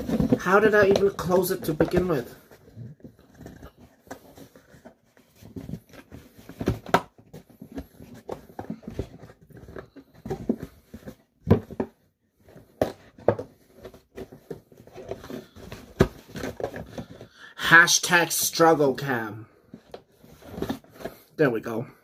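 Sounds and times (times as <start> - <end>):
cardboard rustling scrapes: 0.0 - 17.3, 19.7 - 21.4.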